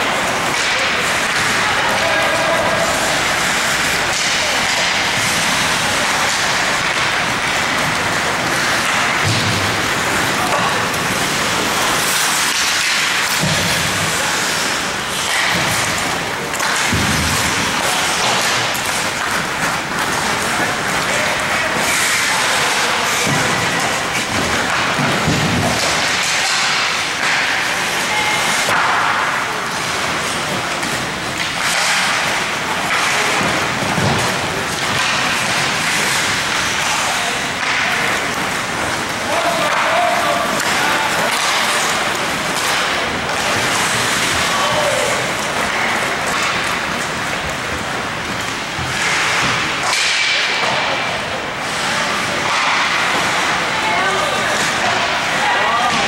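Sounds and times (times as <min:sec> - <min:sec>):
arena crowd noise: 0:00.0 - 0:56.0
skates and sticks on ice: 0:00.0 - 0:56.0.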